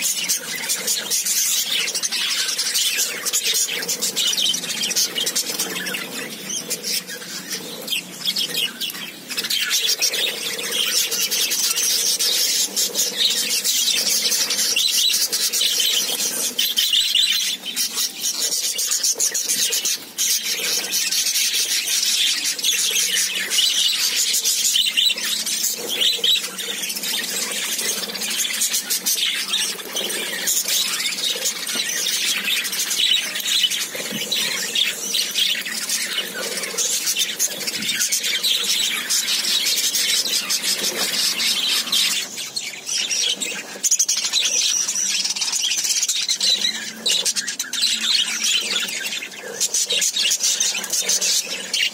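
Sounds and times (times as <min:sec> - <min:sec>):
budgerigars chattering: 0:00.0 - 0:51.9.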